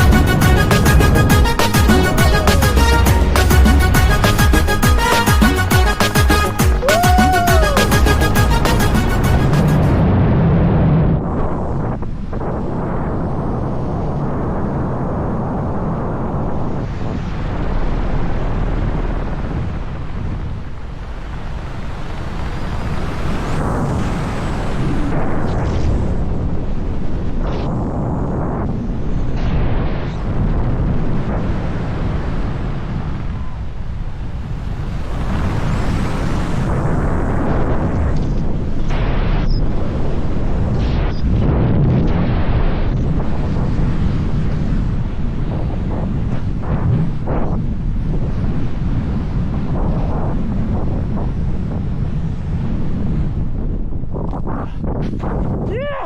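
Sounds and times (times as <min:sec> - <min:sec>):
wind buffeting microphone: 0:00.0 - 0:06.0, 0:06.8 - 0:56.0.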